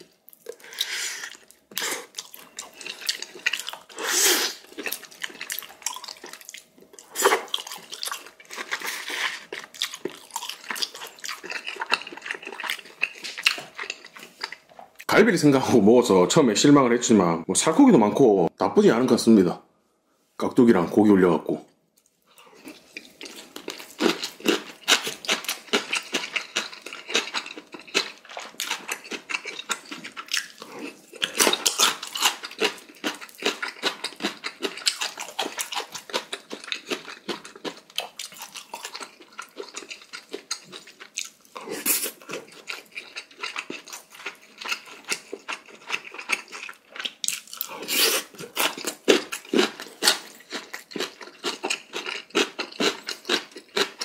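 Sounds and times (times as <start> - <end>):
wet chewing crunches: 0.0 - 15.1, 22.4 - 54.0.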